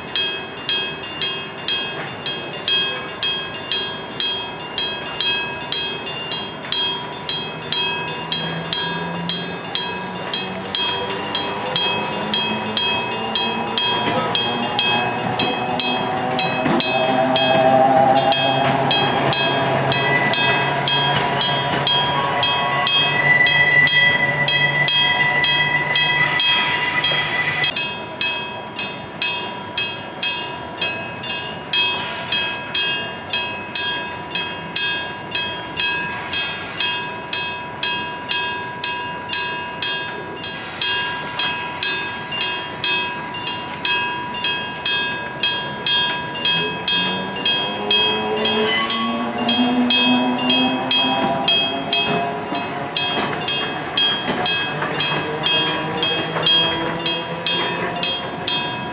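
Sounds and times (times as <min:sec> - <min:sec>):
level crossing electric bell: 0:00.0 - 0:26.7, 0:27.6 - 0:58.9
passing train: 0:00.0 - 0:58.9.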